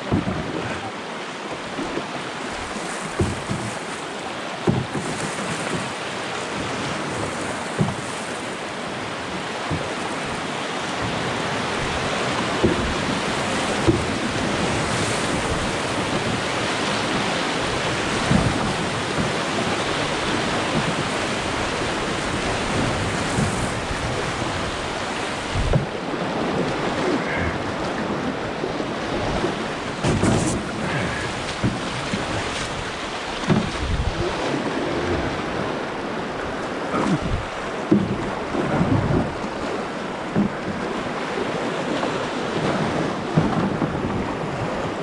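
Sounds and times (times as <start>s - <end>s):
dull thumps on canoe: 0.0s - 0.9s, 1.5s - 3.9s, 4.6s - 8.5s, 9.6s - 28.3s, 29.0s - 35.7s, 36.4s - 45.0s
whitewater rapids roaring: 0.0s - 45.0s.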